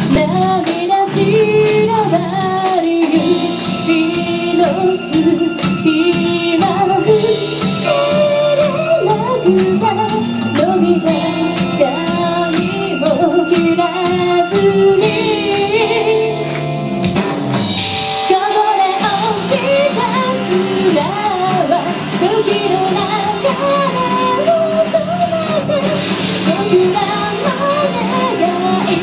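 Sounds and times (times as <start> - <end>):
woman singing into a microphone: 0.0 - 16.6, 18.2 - 29.0
instrumental backing: 0.0 - 29.0.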